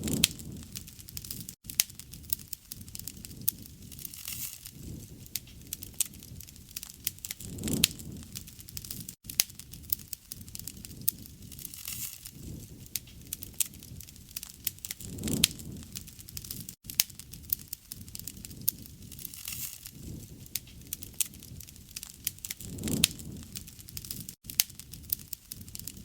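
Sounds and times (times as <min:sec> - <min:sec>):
campfire crackling: 0:00.0 - 0:26.0
fire pops and snaps: 0:00.0 - 0:26.0.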